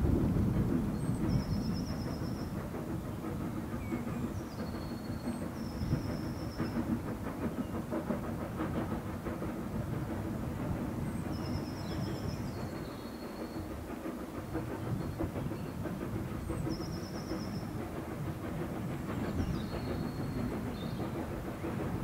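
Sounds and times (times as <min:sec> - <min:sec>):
rail noise: 0:00.0 - 0:22.0
steam locomotive chuffing: 0:00.0 - 0:22.0.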